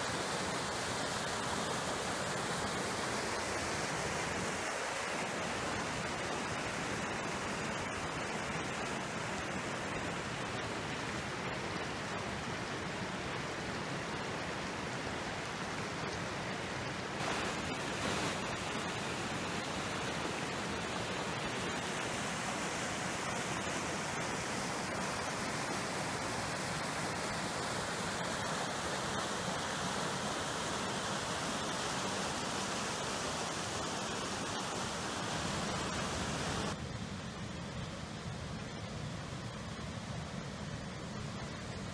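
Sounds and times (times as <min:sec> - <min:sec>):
water rushing over rocks: 0:00.0 - 0:36.8.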